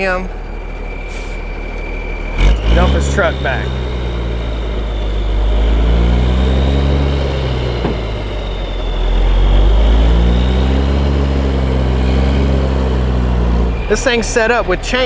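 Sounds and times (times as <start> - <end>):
diesel truck engine revving: 0.0 - 15.0.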